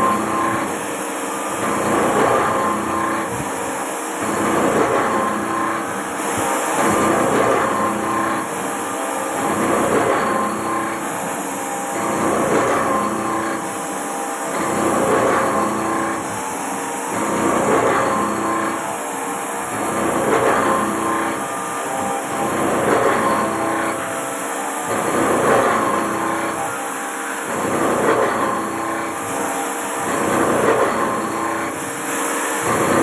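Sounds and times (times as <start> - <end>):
machine running: 0.0 - 33.0.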